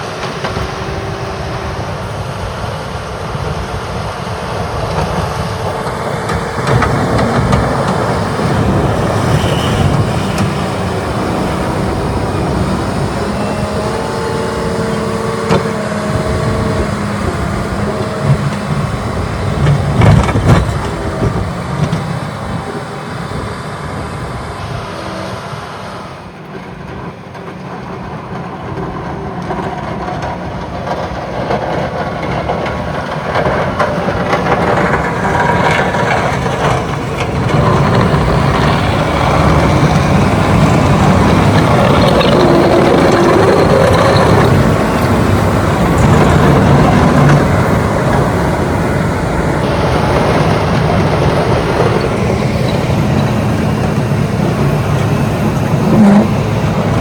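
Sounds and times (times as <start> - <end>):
diesel engine working: 0.0 - 57.0.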